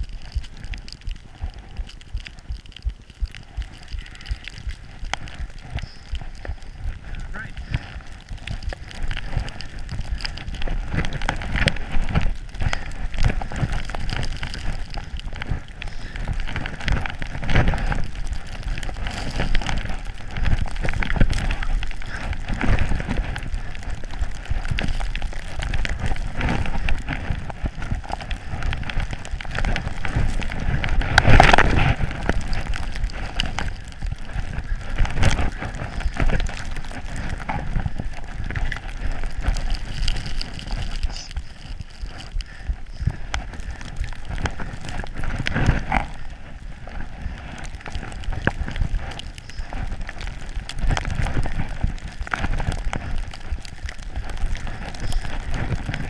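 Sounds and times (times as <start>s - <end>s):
skis scraping through snow: 0.0s - 56.0s
wind buffeting microphone: 0.0s - 56.0s.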